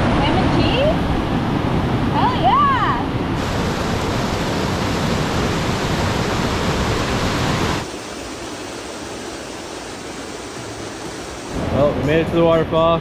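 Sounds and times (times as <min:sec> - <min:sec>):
water rushing over rocks: 0:01.4 - 0:12.8.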